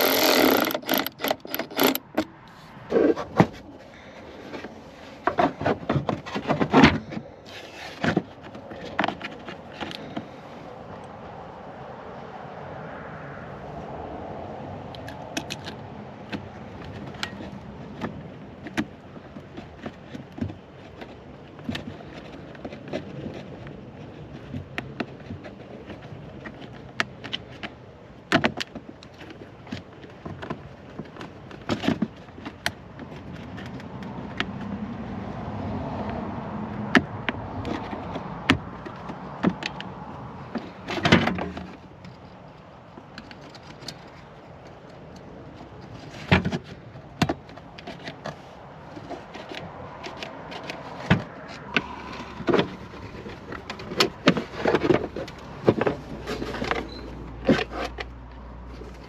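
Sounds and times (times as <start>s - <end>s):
clicks knocks and scrapes of hand work: 0.0s - 11.1s, 14.9s - 59.0s.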